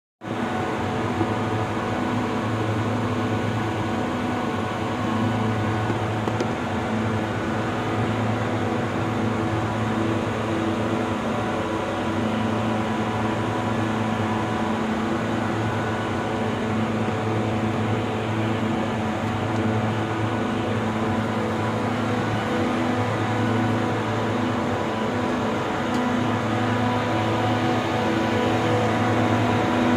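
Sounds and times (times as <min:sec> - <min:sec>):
air-conditioning machine hum: 0:00.3 - 0:29.9
fan noise: 0:00.3 - 0:29.9.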